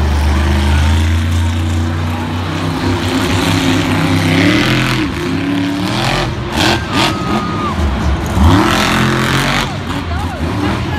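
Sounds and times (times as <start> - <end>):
truck engine revving: 0.0 - 10.9.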